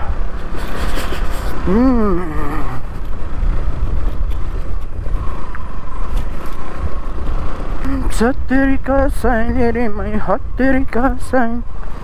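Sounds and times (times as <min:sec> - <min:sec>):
motorcycle engine rumble: 0:00.0 - 0:12.0
road noise: 0:00.0 - 0:12.0
wind noise: 0:00.0 - 0:12.0.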